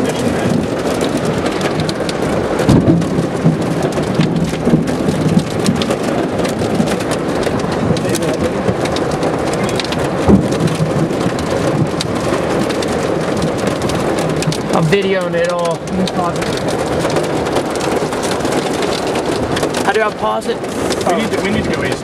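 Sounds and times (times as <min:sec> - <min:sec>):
heavy rain on car roof: 0:00.0 - 0:22.0.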